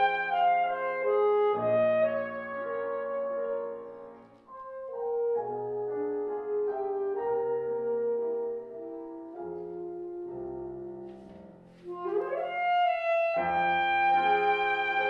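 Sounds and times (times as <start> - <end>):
alto saxophone playing: 0.0 - 11.1, 11.8 - 15.0
piano chords: 0.0 - 15.0.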